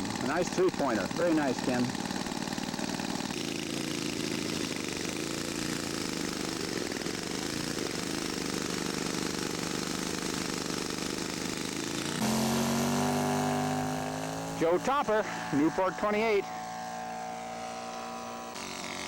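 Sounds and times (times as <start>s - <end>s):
model airplane engine running: 0.0s - 19.0s
model engine at high revs: 0.0s - 19.0s.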